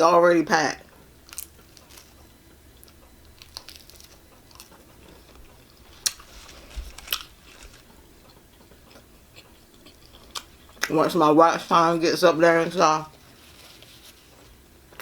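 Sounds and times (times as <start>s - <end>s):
person chewing pizza: 1.2s - 15.0s.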